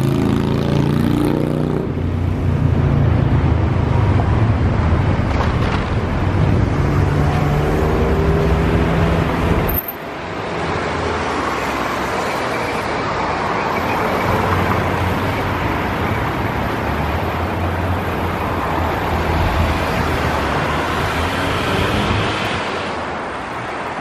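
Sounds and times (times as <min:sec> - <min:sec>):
cars passing: 0:00.0 - 0:24.0
road noise and engine hum: 0:00.0 - 0:24.0.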